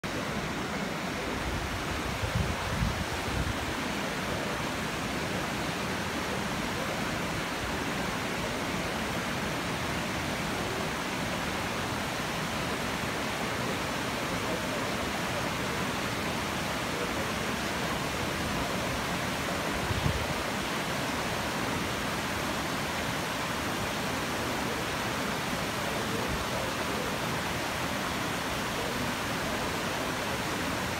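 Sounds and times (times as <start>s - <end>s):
river water rushing over rocks: 0.0s - 30.9s.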